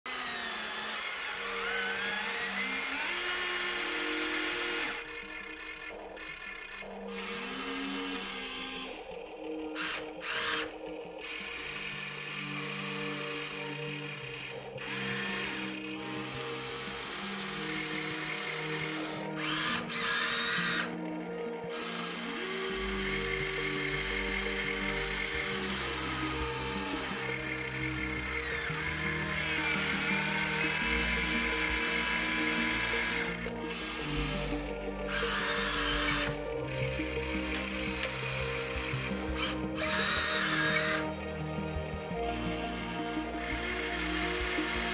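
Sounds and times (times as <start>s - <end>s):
toy electric motors whining: 0.0s - 44.9s
simple background music: 0.1s - 44.9s.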